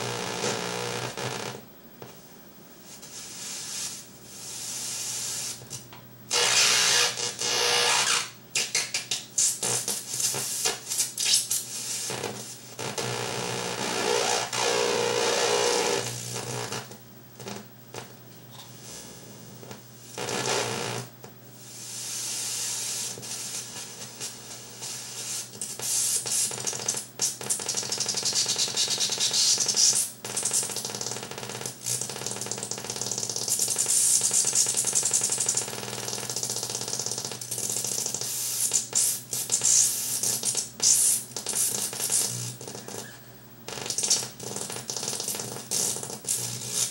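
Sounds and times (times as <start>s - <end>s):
harsh electronic hiss and crackle: 0.0s - 2.2s, 2.8s - 18.2s, 18.8s - 46.9s.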